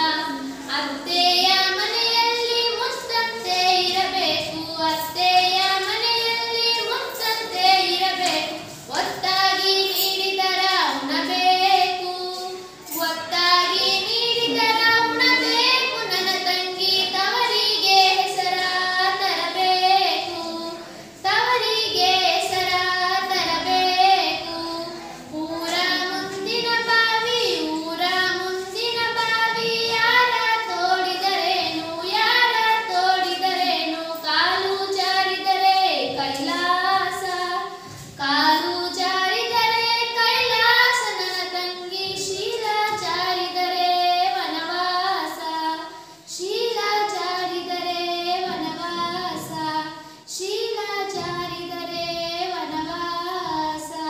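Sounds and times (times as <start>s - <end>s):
girl singing unaccompanied: 0.0s - 54.0s.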